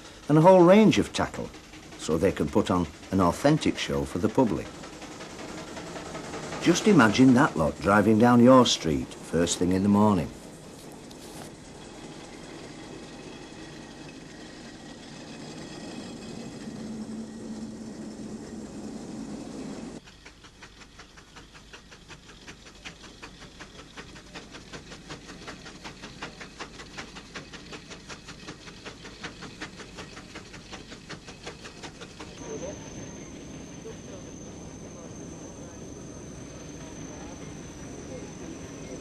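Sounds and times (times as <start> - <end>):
steam engine exhaust chuffing: 0.0 - 39.0.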